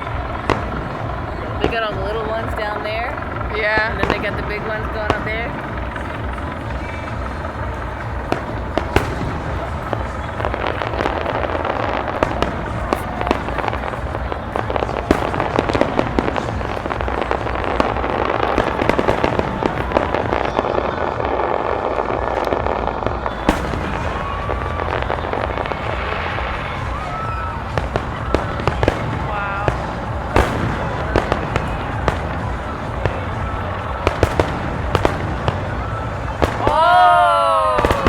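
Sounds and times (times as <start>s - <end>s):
fireworks bangs and crackles: 0.0s - 38.0s
steady rumble: 0.0s - 38.0s.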